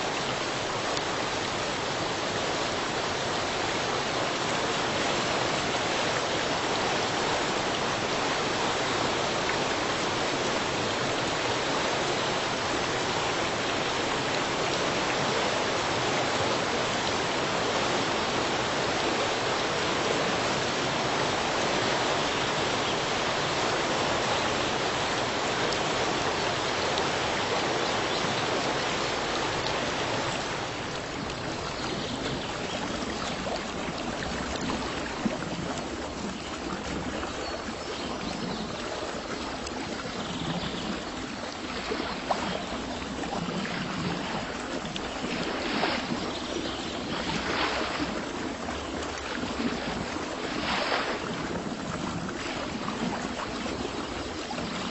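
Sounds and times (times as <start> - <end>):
running water: 0.0 - 54.9
small water splashes: 0.0 - 54.9.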